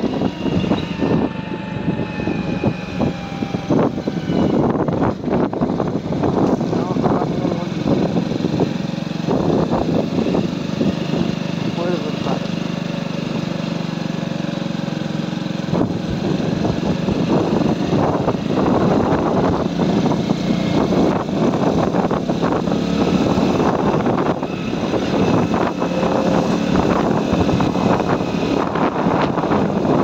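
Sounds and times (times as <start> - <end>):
wind noise on microphone: 0.0 - 12.4, 15.6 - 30.0
motorcycle engine running: 0.0 - 30.0.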